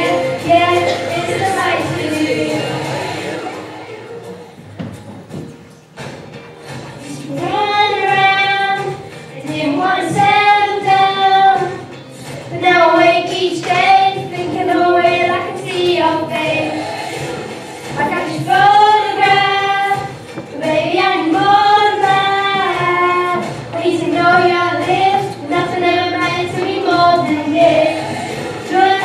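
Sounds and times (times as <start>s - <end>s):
girls singing into microphones: 0.0s - 4.4s, 7.0s - 29.0s.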